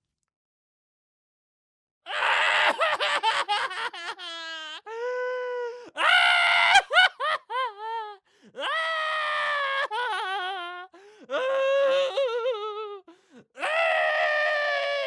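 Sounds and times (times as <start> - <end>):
person crying and wailing: 2.1 - 15.0.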